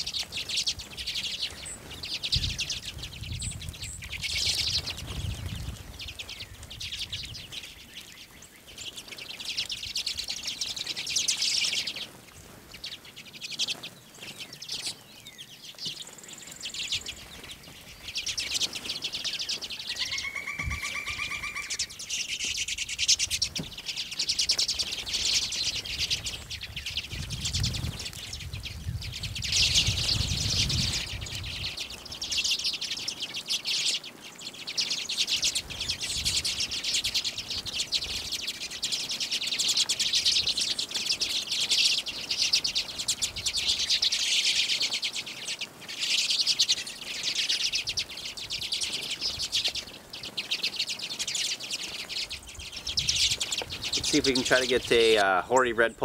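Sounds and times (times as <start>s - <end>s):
flock of birds twittering: 0.0s - 56.0s.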